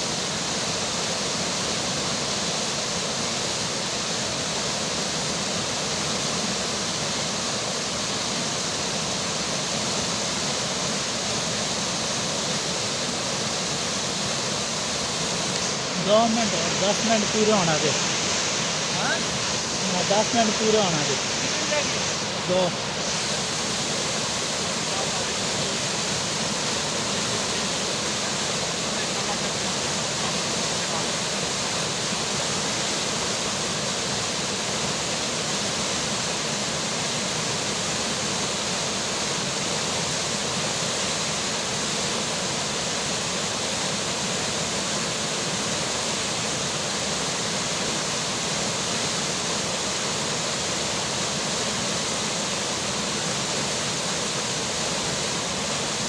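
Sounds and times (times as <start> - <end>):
rainfall: 0.0 - 56.0
river water flowing: 0.0 - 56.0.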